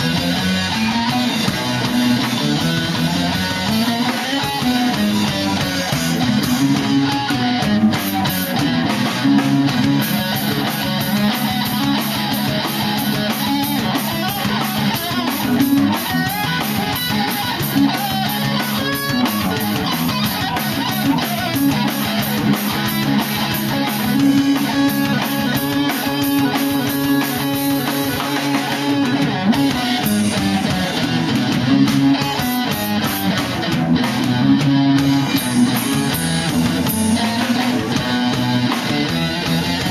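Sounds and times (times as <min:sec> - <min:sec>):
loud rock music: 0:00.0 - 0:39.9.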